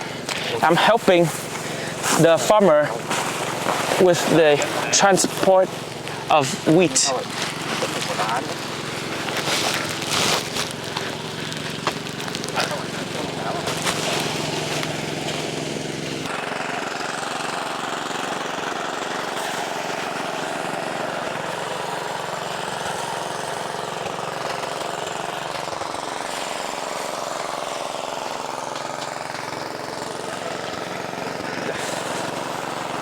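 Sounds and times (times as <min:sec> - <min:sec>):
threshing machine engine running: 0:00.0 - 0:33.0.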